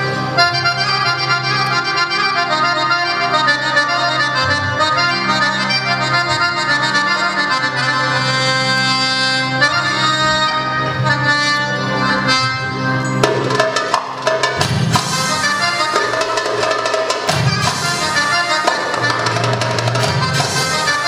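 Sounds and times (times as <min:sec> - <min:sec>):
belly-dance melody: 0:00.0 - 0:21.0.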